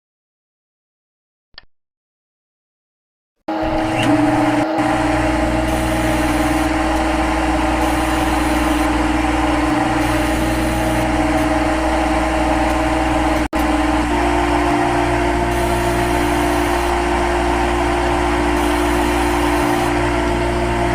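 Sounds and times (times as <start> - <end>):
lathe machine hum and whine: 3.5 - 20.9.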